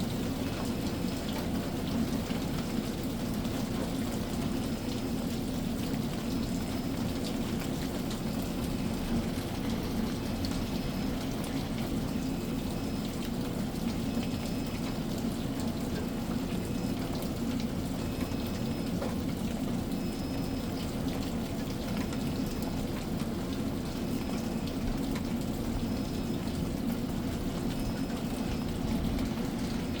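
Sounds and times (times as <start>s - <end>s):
rain pattering on surfaces: 0.0s - 30.0s.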